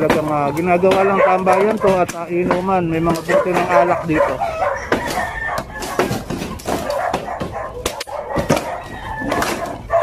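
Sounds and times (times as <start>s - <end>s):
machete chopping bamboo: 0.0s - 3.9s, 4.8s - 9.8s
wood knocking and cracking: 0.0s - 4.0s, 4.8s - 10.0s
animal calls: 0.4s - 10.0s.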